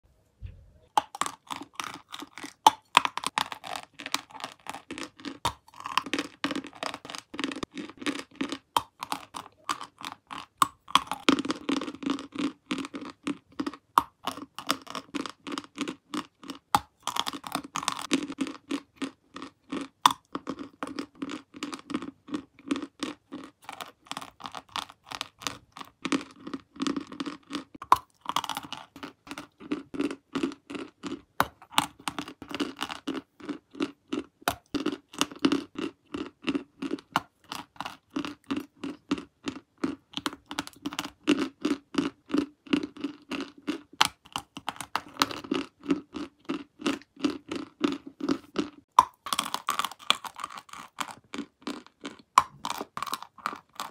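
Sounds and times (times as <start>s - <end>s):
chewing chalk crunch: 0.9s - 53.9s.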